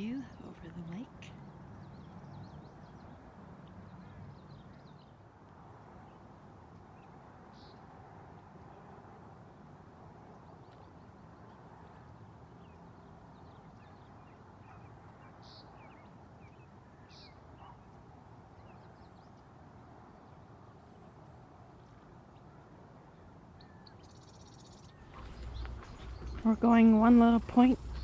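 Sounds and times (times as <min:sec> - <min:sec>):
songbird chirps: 0:00.0 - 0:28.0.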